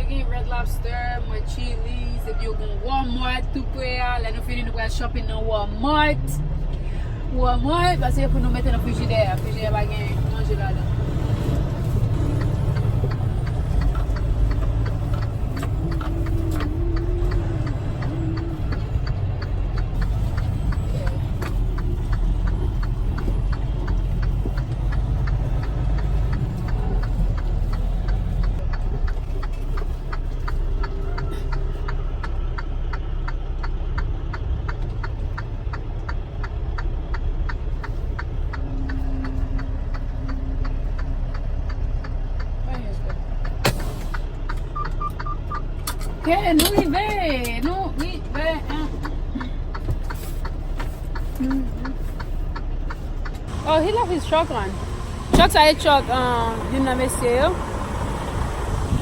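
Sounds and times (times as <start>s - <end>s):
truck engine rumbling: 0.0s - 59.0s
fast ticking: 6.6s - 59.0s.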